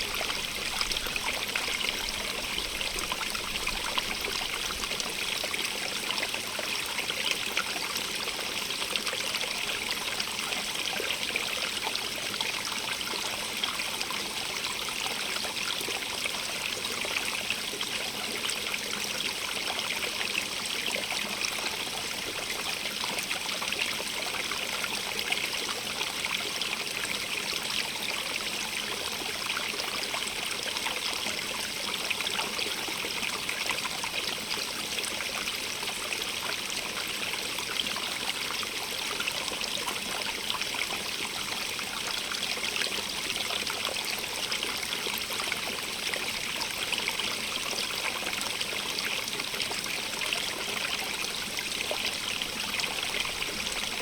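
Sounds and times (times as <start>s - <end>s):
stream trickling over stones: 0.0s - 54.0s.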